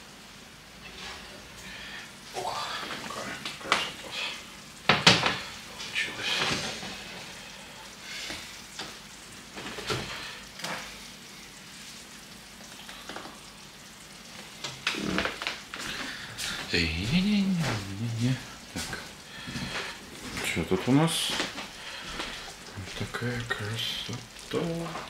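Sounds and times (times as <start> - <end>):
casserole sizzling faintly: 0.0 - 25.0.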